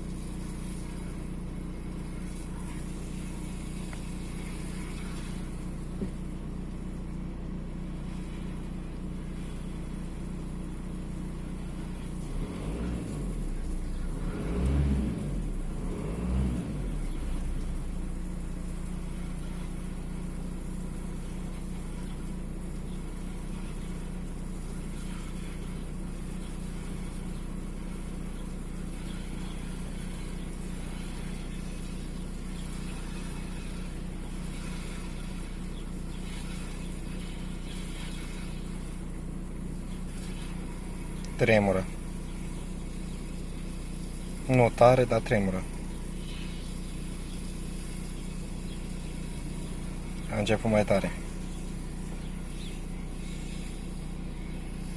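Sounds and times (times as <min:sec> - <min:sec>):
diesel engine revving and idling: 0:00.0 - 0:54.9.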